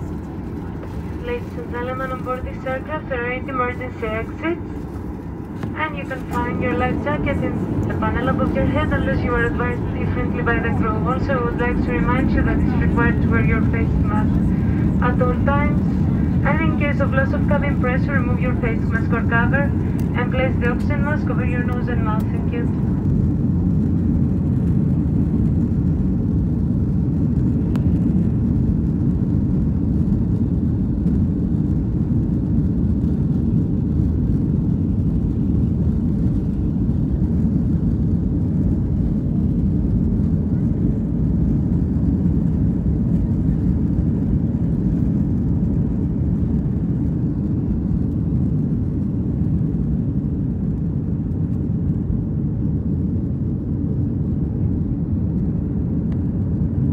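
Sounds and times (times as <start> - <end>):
airliner cabin engine rumble: 0.0 - 56.9.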